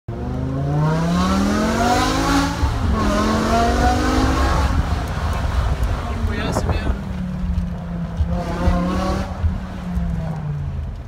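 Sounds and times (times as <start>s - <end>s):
car engine accelerating: 0.1s - 11.0s.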